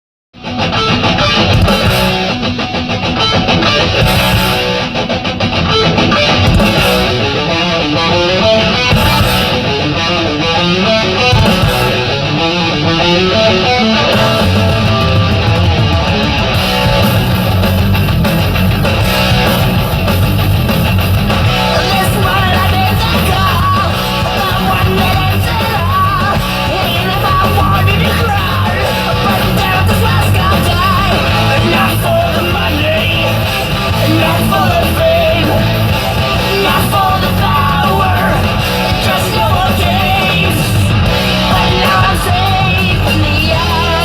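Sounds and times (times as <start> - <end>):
heavy metal song with guitar: 0.4 - 44.0.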